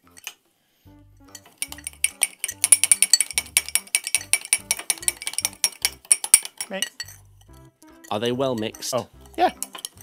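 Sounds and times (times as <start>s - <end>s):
spoon clinking against glass: 1.3s - 10.0s.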